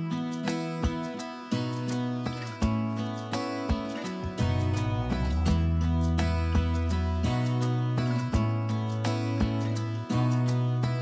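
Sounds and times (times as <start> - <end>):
country acoustic guitar music: 0.0 - 11.0
steady bass line: 0.0 - 11.0.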